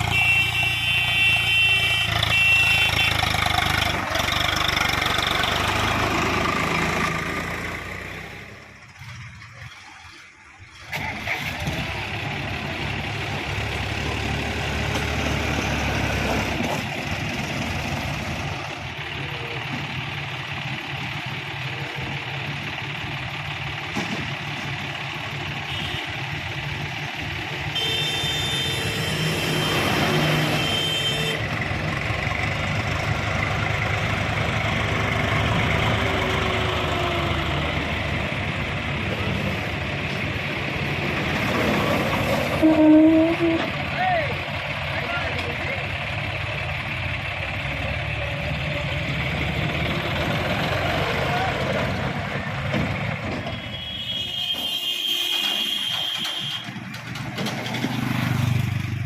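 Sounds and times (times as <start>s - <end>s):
heavy diesel machinery engine: 0.0s - 59.0s.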